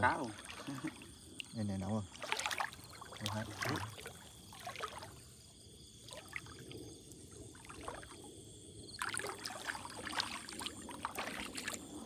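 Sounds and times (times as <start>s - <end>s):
shallow water sloshing: 0.0s - 12.0s
small water splashes: 0.0s - 12.0s.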